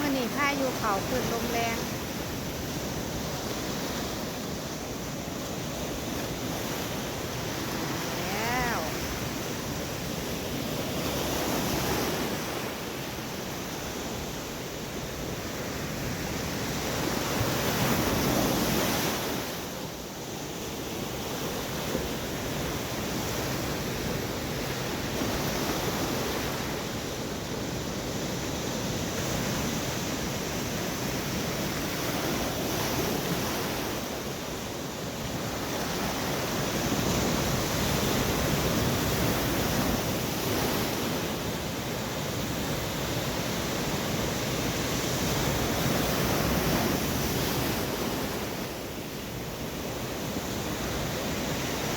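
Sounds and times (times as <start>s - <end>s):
storm waves crashing on shore: 0.0s - 51.9s.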